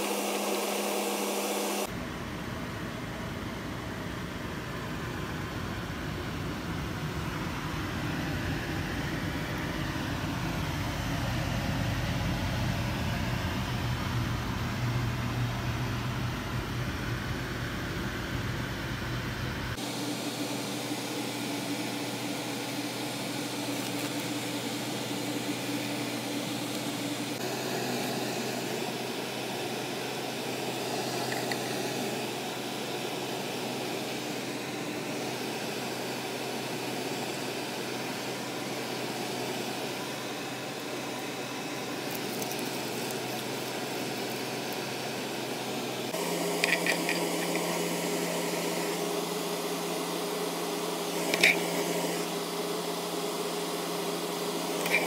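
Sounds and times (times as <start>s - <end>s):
fan hum with hiss: 0.0s - 55.0s.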